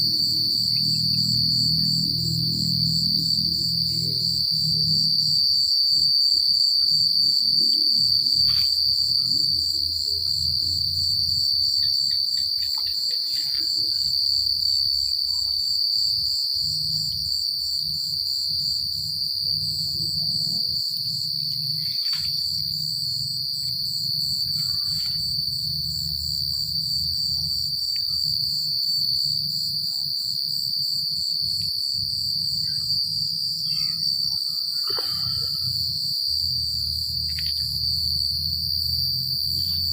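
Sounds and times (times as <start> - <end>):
crickets continuous high trill: 0.0 - 39.9
crickets pulsing trill: 0.0 - 39.9.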